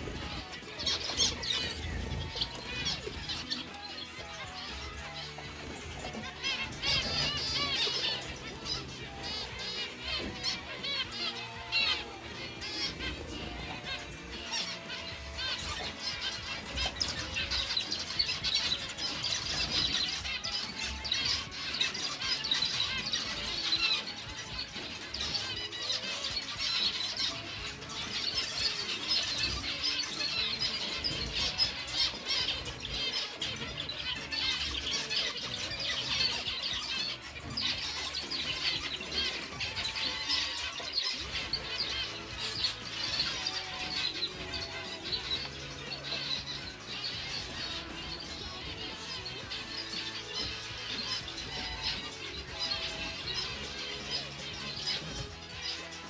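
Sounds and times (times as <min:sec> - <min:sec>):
music playing: 0:00.0 - 0:56.0
small birds chirping: 0:00.0 - 0:56.0.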